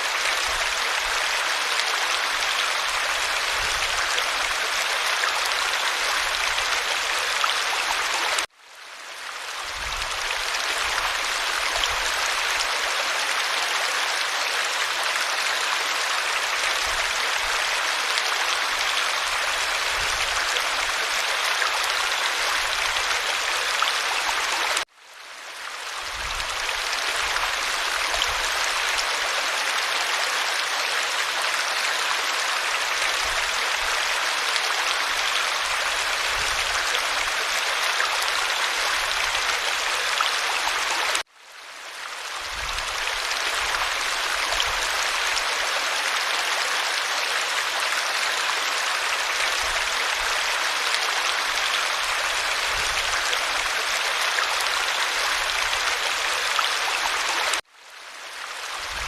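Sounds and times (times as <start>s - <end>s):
creek water running over stones: 0.0s - 59.0s.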